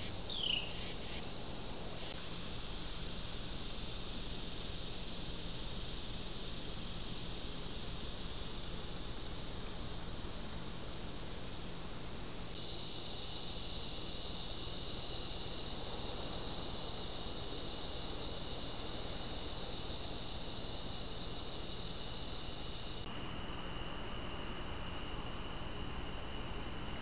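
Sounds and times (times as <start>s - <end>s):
night insects chorus: 0.0s - 27.0s.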